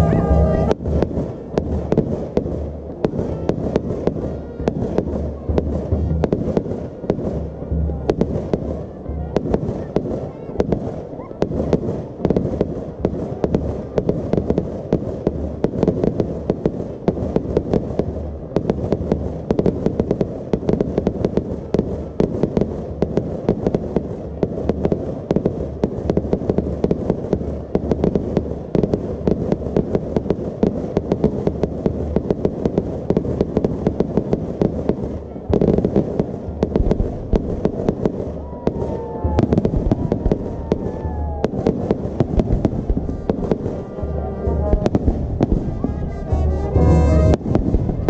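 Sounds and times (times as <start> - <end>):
fireworks bangs: 0.0 - 48.0.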